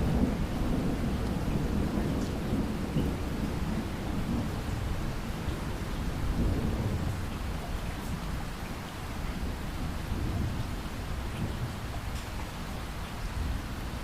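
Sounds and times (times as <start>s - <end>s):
rolling thunder rumble: 0.0s - 8.7s, 9.4s - 12.8s
heavy rain pouring: 0.0s - 14.0s.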